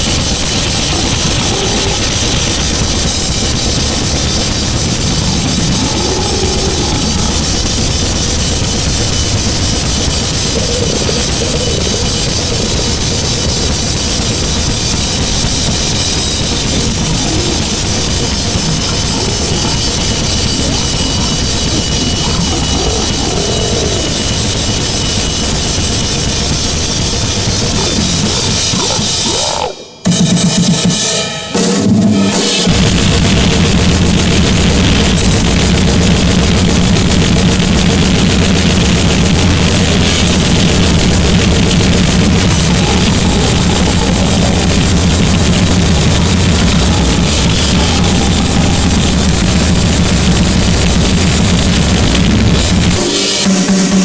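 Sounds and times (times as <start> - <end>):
distorted noise music with drums: 0.0 - 54.0.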